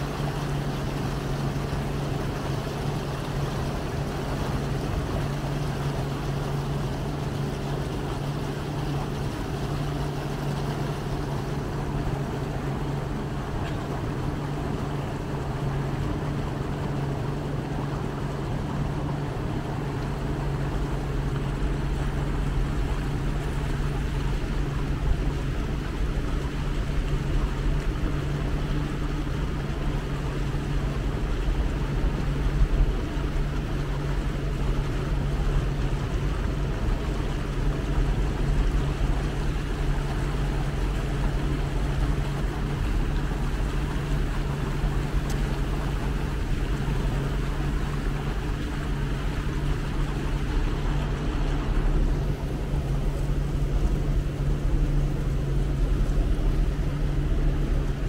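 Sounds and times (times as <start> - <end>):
boat motor running: 0.0 - 58.0
water rushing: 0.0 - 58.0
wind: 0.0 - 58.0.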